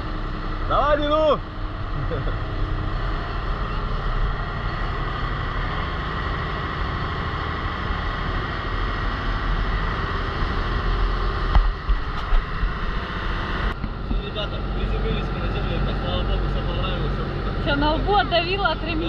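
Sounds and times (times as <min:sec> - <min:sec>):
motorboat engine drone: 0:00.0 - 0:19.0
wind: 0:00.0 - 0:19.0.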